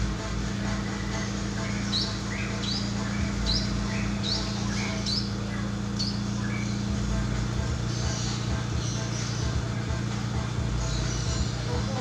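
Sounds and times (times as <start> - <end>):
bird chirping: 0.0 - 12.0
steady low hum: 0.0 - 12.0.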